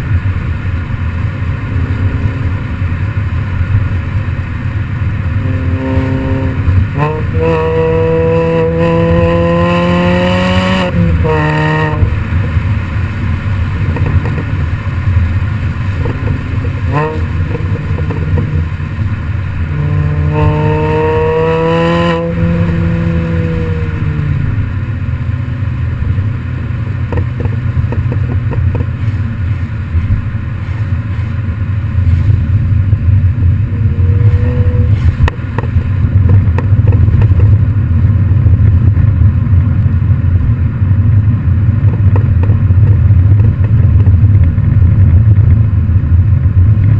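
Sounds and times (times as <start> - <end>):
car exhaust revving: 0.0 - 46.9.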